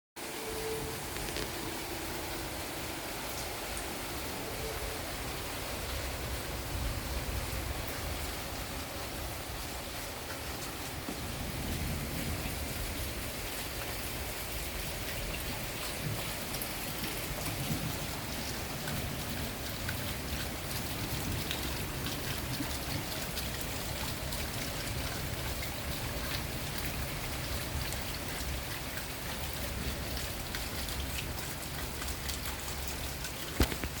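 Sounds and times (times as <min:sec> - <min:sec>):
rain drops ticking: 0:00.2 - 0:34.0.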